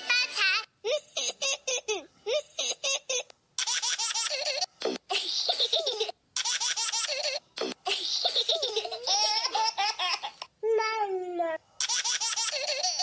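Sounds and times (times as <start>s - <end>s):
high-pitched laughter: 0.9s - 10.5s, 11.8s - 13.0s.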